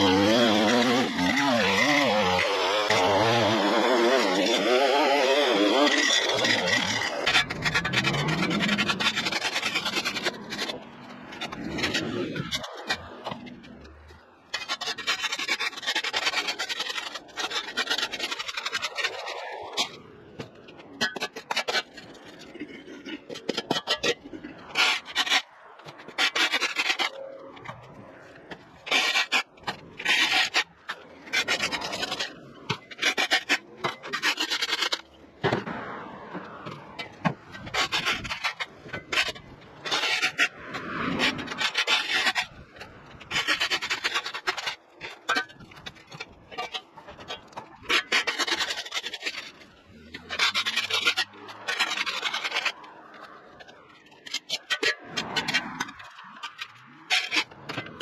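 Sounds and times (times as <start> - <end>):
rough scraping on hard surface: 0.0 - 58.0.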